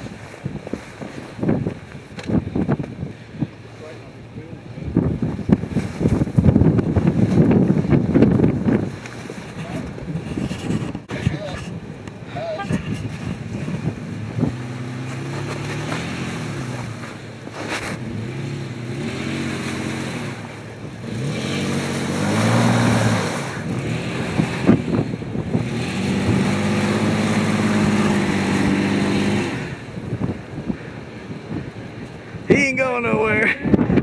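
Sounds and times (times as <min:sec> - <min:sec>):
off-road vehicle engine revving: 0:02.2 - 0:32.4.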